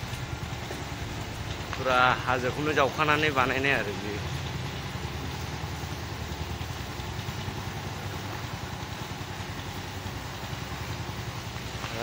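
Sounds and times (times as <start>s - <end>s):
road or wind noise: 0.0s - 12.0s
vehicle engine humming: 0.0s - 12.0s.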